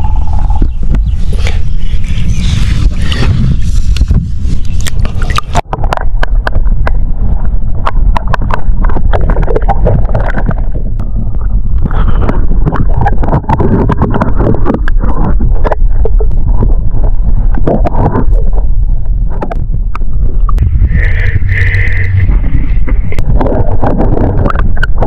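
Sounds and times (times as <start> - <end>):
muffled underwater rumble and sloshing: 0.0 - 25.0.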